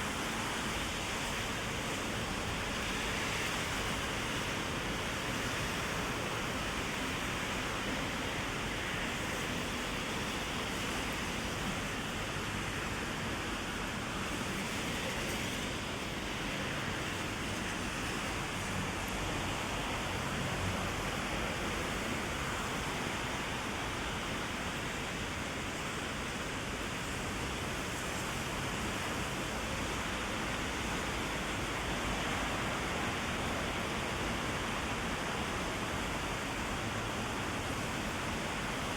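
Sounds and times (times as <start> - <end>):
heavy rain on umbrella: 0.1 - 38.9.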